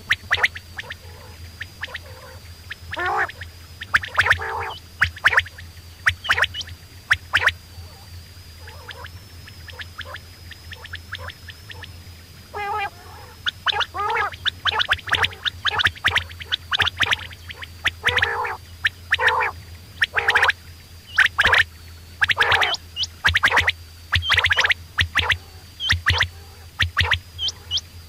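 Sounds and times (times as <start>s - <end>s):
quail calling: 0.0s - 27.9s.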